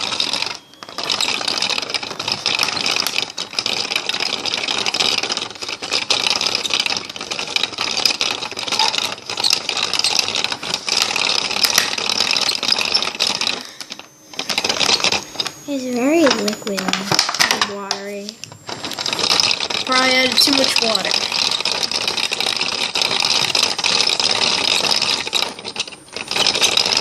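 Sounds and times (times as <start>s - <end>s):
plastic gears clattering: 0.0s - 27.0s.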